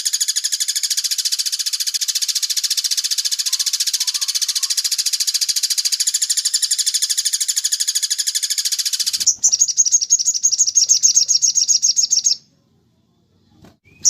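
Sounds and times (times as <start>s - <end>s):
songbird trilling: 0.0s - 12.4s.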